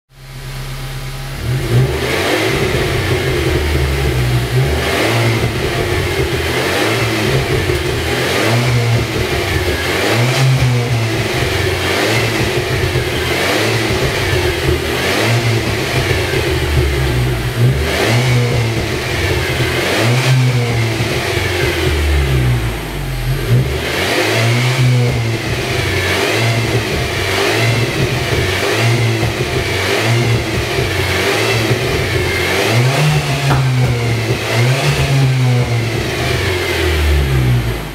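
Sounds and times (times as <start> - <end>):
car engine revving: 0.1 - 37.9.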